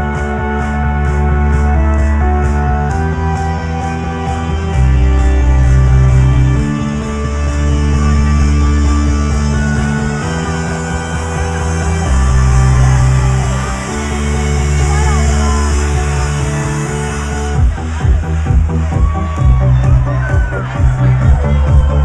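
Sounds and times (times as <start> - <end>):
loud trance music: 0.0 - 22.0.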